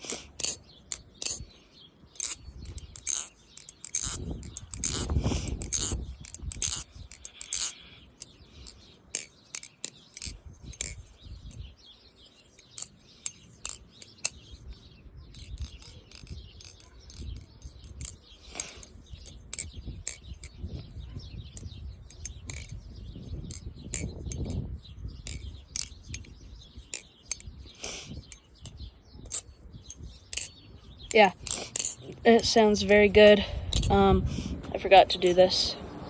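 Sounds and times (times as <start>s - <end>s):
butterfly knife metallic clicks: 0.0s - 1.5s, 2.2s - 11.6s, 12.6s - 14.6s, 15.3s - 20.6s, 21.6s - 22.8s, 23.5s - 33.0s, 33.6s - 34.0s.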